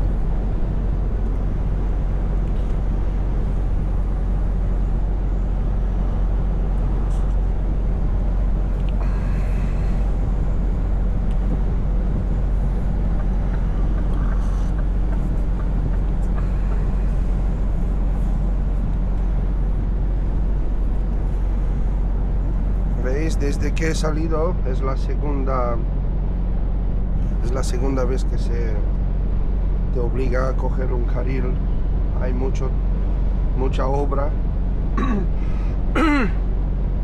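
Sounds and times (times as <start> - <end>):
road noise: 0.0 - 37.0
truck engine droning: 0.0 - 37.0.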